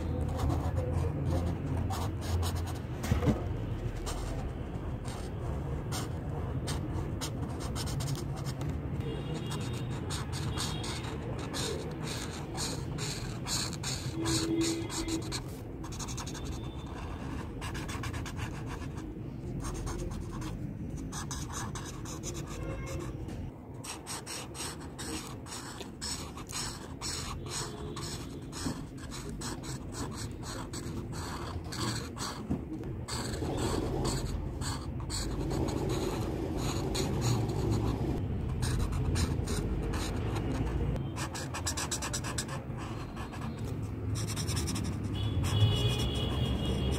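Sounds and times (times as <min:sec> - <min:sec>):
marker scratching on paper: 0:00.0 - 0:46.9.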